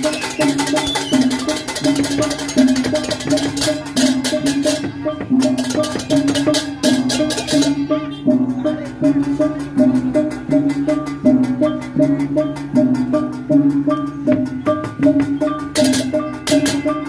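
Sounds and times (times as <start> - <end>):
hand cymbals clashing: 0.0 - 17.0
tuned metal percussion: 0.0 - 17.0.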